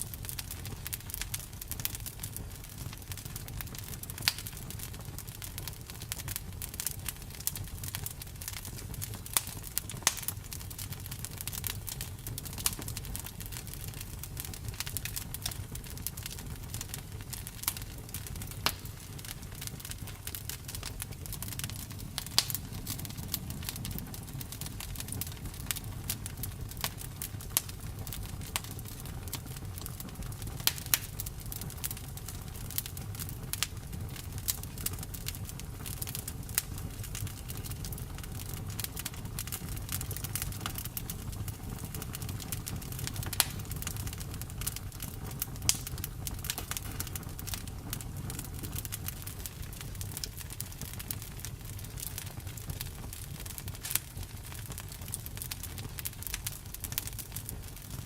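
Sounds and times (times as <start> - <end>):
campfire burning: 0.0 - 58.0.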